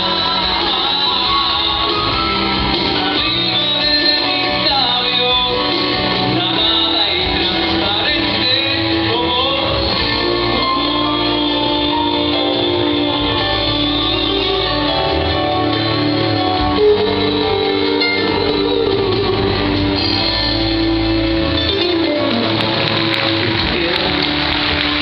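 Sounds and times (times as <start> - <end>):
man singing into microphone: 0.0 - 20.4
amplified backing music with guitar: 0.0 - 25.0.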